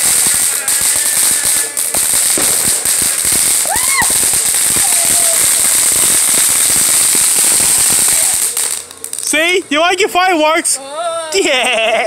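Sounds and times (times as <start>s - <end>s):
firework hissing and crackling: 0.0s - 11.5s.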